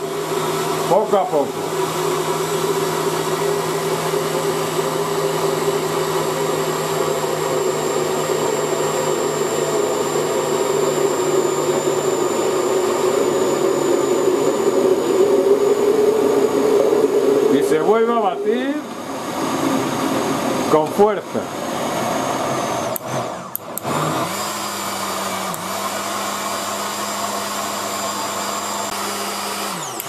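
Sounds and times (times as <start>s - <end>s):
blender whining: 0.0s - 30.0s.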